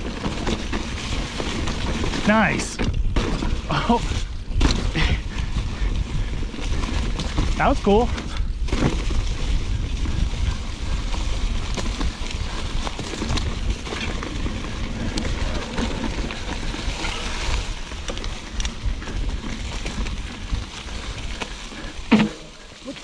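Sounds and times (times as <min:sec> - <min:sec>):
wind rumble on microphone: 0:00.0 - 0:22.1
bike clicks and rattles: 0:00.0 - 0:23.0
bike tyres crackling over dirt: 0:00.0 - 0:23.0.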